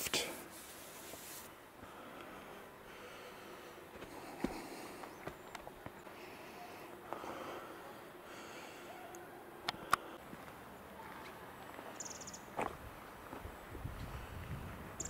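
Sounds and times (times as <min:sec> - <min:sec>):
forest ambience: 0:00.0 - 0:15.0.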